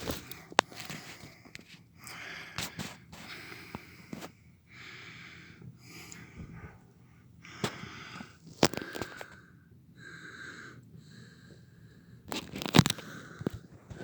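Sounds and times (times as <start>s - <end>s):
person breathing hard: 2.0s - 12.3s, 12.9s - 14.0s.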